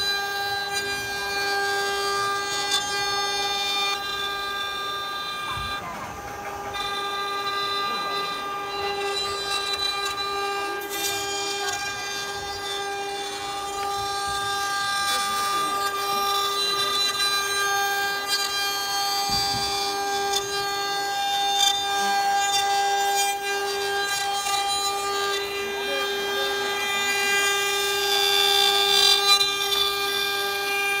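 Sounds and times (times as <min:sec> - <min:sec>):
bits cutting wood: 0:00.0 - 0:31.0
router spindles whining: 0:00.0 - 0:31.0.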